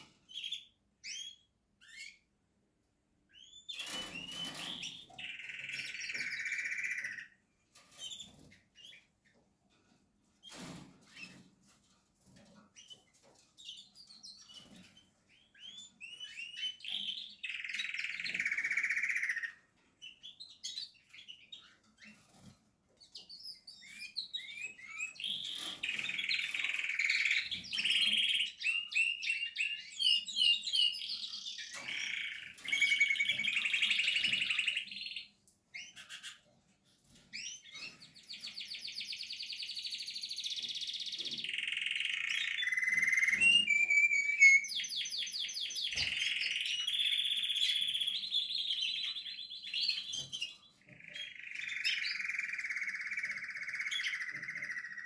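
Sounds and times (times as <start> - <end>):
canary singing trills and whistles: 0.0 - 2.3, 3.3 - 9.1, 12.8 - 55.0.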